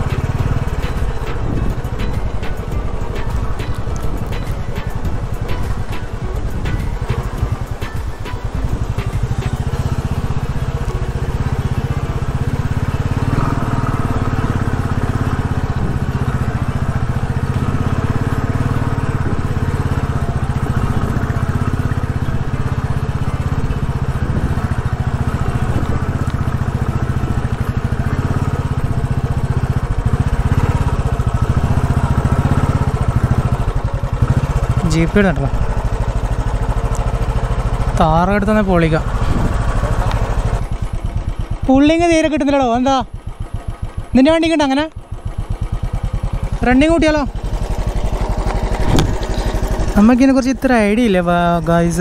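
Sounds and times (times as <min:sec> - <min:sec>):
motorcycle engine thumping: 0:00.0 - 0:52.0.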